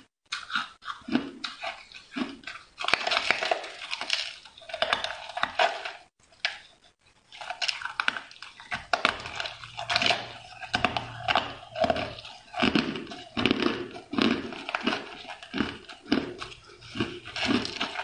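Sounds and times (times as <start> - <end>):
ice being chewed: 0.0 - 18.0.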